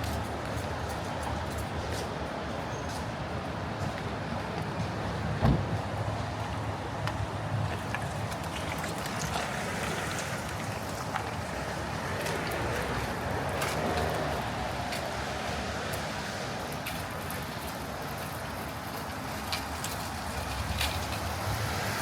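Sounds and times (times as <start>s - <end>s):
traffic hum and hiss: 0.0s - 22.0s.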